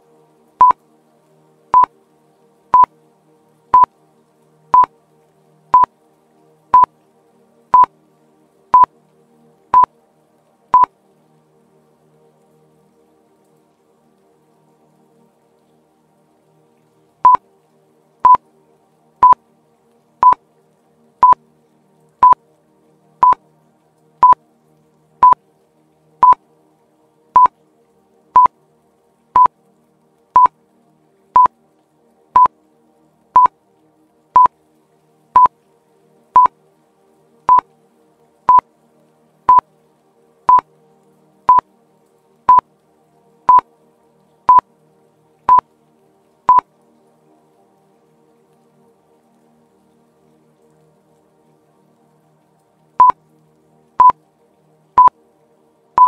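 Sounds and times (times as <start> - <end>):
faint background music: 0.0 - 56.0.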